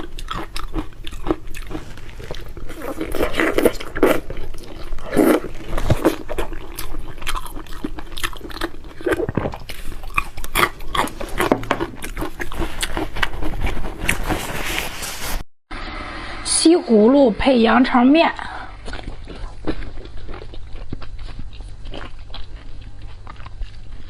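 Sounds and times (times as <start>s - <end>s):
person chewing food: 0.0s - 14.8s, 18.6s - 24.0s.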